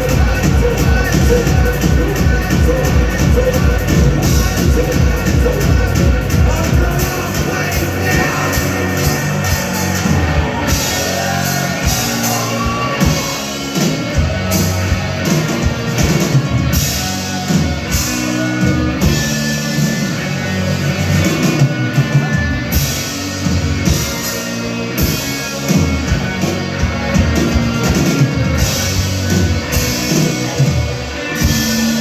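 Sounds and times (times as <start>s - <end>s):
rock band playing: 0.0s - 32.0s.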